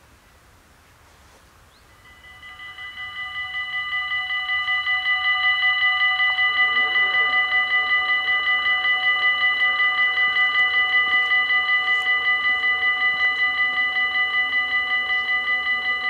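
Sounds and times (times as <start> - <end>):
level crossing bells ringing: 1.8 - 16.0.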